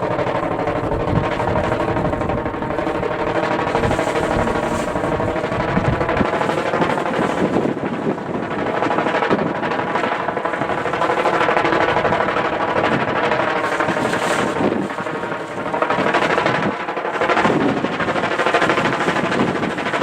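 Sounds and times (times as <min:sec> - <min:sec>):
kite humming: 0:00.0 - 0:20.0
rush of wind: 0:00.0 - 0:20.0.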